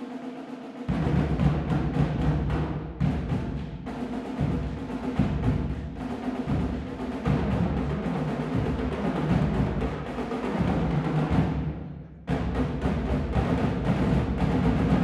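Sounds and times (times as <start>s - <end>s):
marching drumline cadence: 0.0s - 15.0s.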